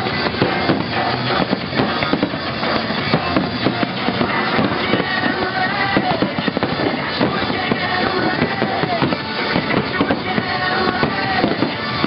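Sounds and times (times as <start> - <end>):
fireworks bursting and crackling: 0.0 - 12.0
music playing: 0.0 - 12.0.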